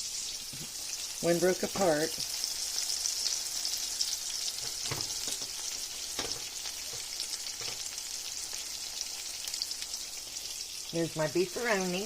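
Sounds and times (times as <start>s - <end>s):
tomato slices sizzling in oil: 0.0s - 12.0s.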